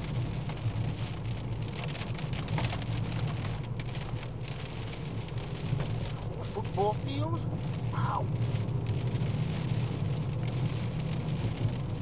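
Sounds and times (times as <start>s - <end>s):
rain hitting a car: 0.0s - 12.0s.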